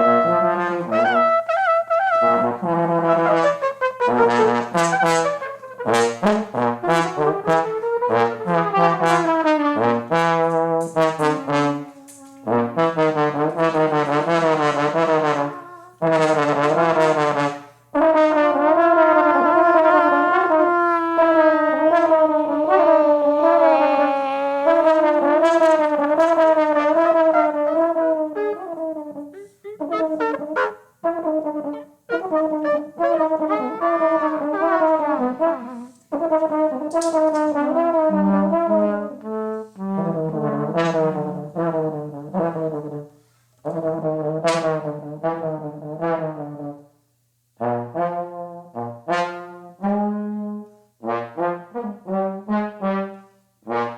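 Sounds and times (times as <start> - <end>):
trumpet improvising: 0.0 - 46.8
trombone improvising: 0.0 - 46.9, 47.6 - 53.9.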